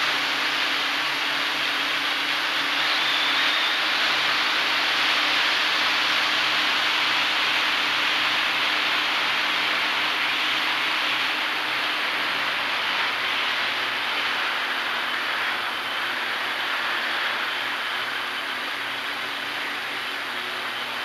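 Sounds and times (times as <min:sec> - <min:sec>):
drone propellers rushing: 0:00.0 - 0:21.0.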